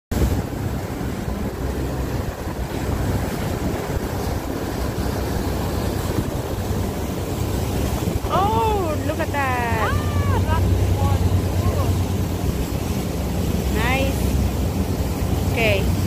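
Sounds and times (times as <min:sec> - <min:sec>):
motorboat running: 0:00.1 - 0:16.0
rushing water wake: 0:00.1 - 0:16.0
wind on microphone: 0:00.1 - 0:16.0.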